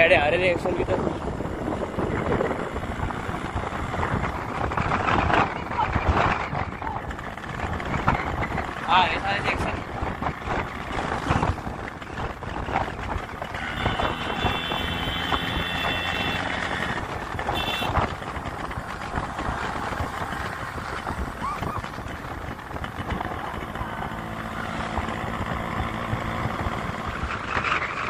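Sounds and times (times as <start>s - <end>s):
motorcycle engine and wind: 0.0s - 28.0s.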